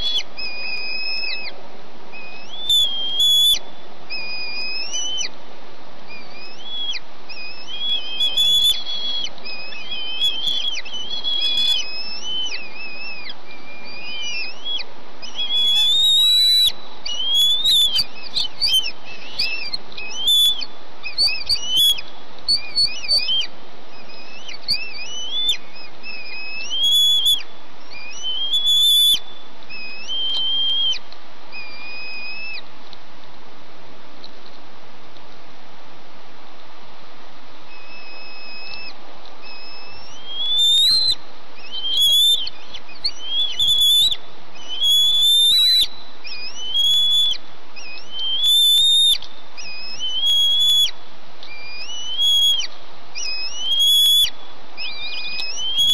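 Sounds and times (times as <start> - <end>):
eaglets begging calls: 0.0 - 5.3, 6.1 - 32.6, 37.7 - 55.9
steady hiss: 0.0 - 55.9.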